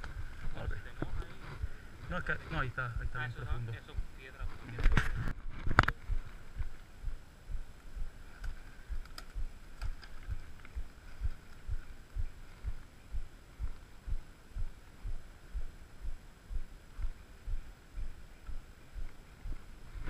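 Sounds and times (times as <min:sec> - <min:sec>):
muffled low thumps: 0:00.0 - 0:20.0.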